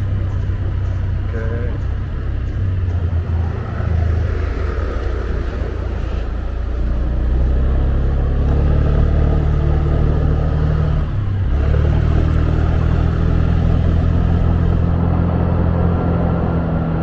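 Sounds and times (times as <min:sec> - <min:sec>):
motorbike engine running: 0:00.0 - 0:16.8
road and wind noise: 0:00.0 - 0:17.0.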